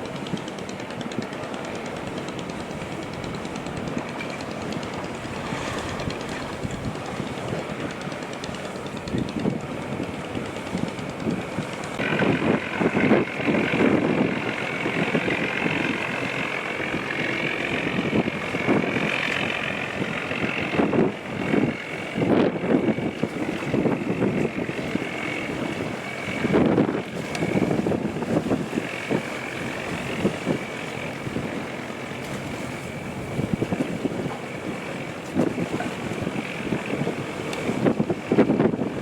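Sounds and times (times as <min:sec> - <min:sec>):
boat engine running: 0:00.0 - 0:39.0
wind buffeting microphone: 0:00.0 - 0:39.0.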